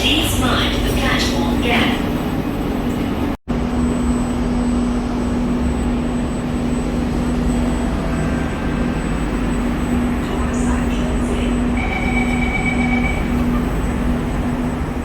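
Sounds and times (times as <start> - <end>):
metro train cabin rumble: 0.0 - 15.0.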